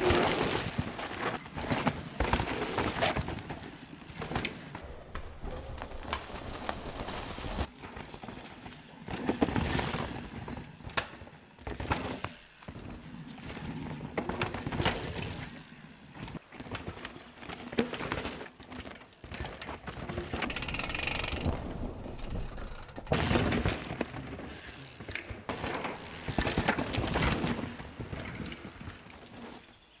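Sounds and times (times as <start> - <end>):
bike frame and chain rattling: 0.0 - 4.8, 7.6 - 29.6
bike tyres skidding on dirt: 0.0 - 4.9, 5.5 - 20.6, 23.1 - 30.0.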